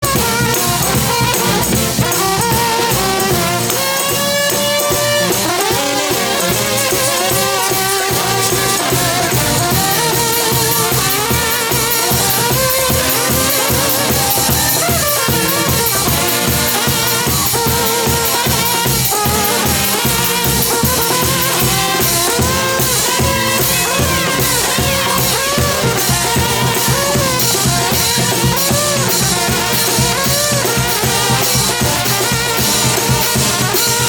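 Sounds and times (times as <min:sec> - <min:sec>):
driving drum beat: 0:00.0 - 0:34.0
trumpets and trombones melody: 0:00.0 - 0:34.0.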